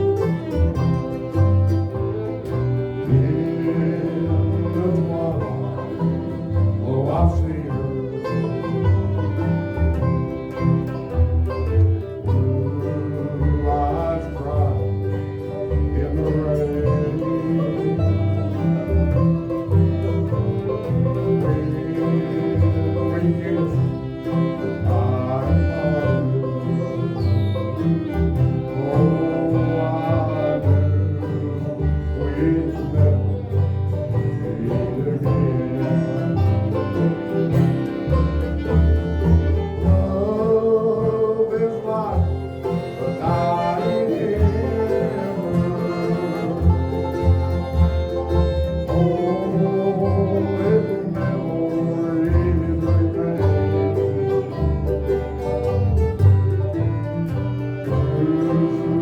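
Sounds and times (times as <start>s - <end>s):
banjo: 0.0s - 59.0s
bass line: 0.0s - 59.0s
bluegrass band playing: 0.0s - 59.0s
fiddle: 0.0s - 59.0s
guitar: 0.0s - 59.0s.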